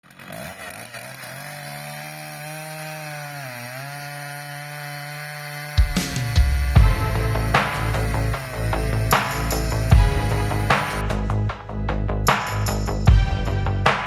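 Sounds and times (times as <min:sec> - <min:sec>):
chainsaw running: 0:00.0 - 0:13.9.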